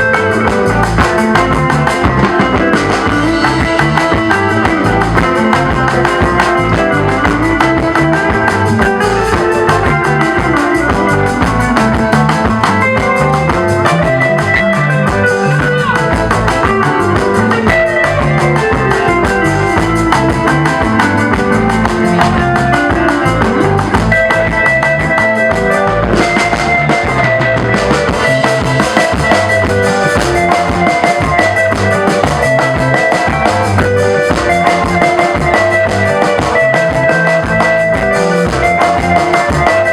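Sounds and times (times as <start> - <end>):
drum kit beat: 0.0 - 39.9
lead guitar: 0.0 - 39.9.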